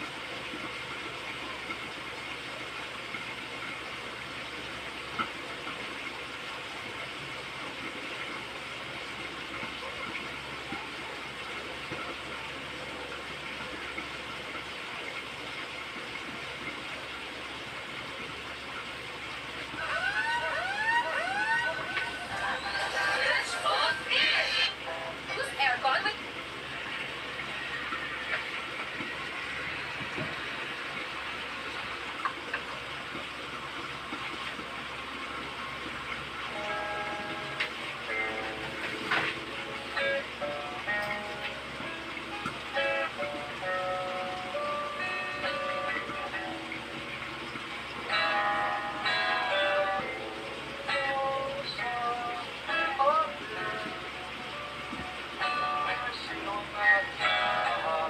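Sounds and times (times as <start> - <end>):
fish frying in hot oil: 0.0 - 58.0.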